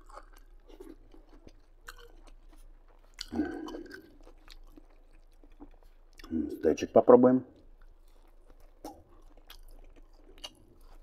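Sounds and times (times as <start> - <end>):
person chewing crunchy salad: 0.0 - 6.6, 7.5 - 11.0.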